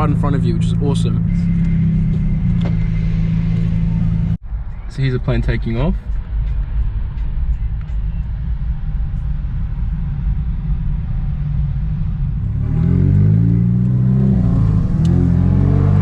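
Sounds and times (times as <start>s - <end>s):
wavering engine drone: 0.0s - 4.9s, 6.0s - 16.0s.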